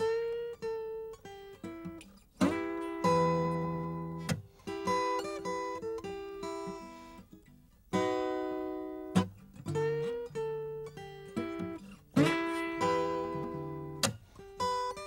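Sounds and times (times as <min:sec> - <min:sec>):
acoustic guitar picked notes: 0:00.0 - 0:15.0
acoustic guitar strummed chords: 0:00.0 - 0:15.0.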